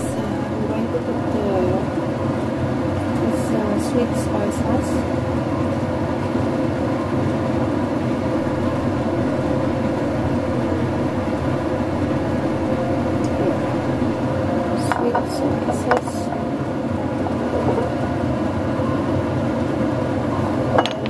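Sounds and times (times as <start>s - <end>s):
steady mechanical drone: 0.0s - 20.7s.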